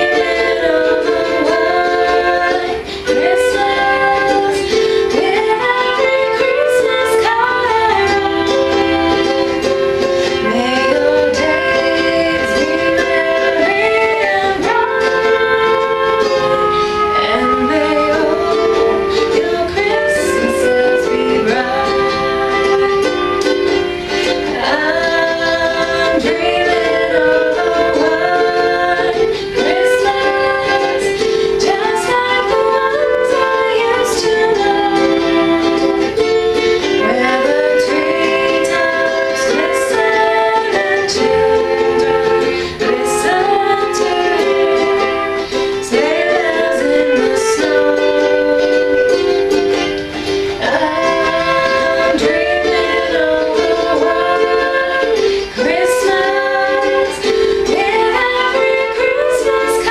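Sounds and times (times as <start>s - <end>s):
flute playing: 0.0s - 59.9s
ukulele strumming: 0.0s - 59.9s
woman singing: 0.0s - 59.9s.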